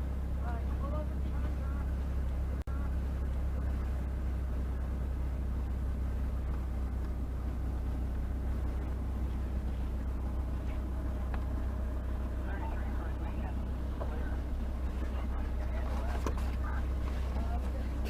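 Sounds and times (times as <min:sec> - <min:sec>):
car engine rumble: 0:00.0 - 0:18.0
road noise: 0:00.0 - 0:18.0.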